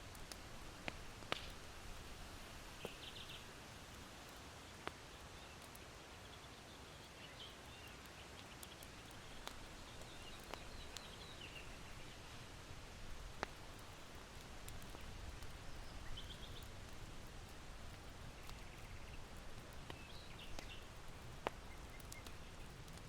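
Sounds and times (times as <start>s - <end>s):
charcoal crackling and popping: 0.0s - 23.0s
low hiss of wind: 0.0s - 23.0s
small birds chirping: 0.1s - 23.0s.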